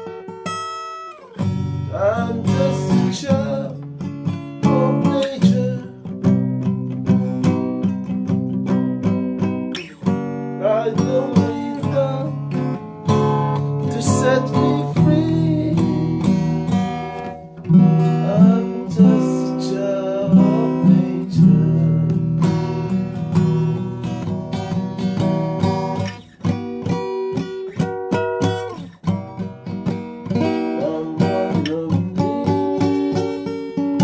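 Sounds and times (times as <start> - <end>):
acoustic guitar music: 0.0 - 34.0.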